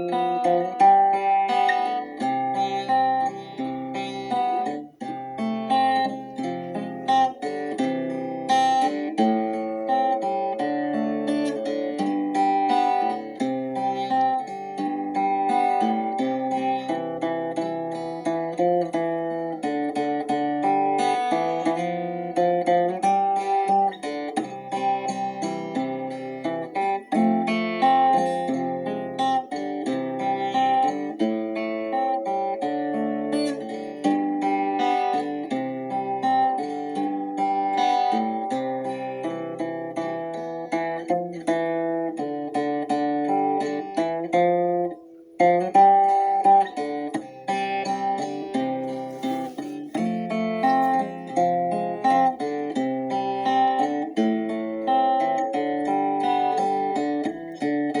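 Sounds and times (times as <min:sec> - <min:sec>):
acoustic guitar picking: 0:00.0 - 0:58.0.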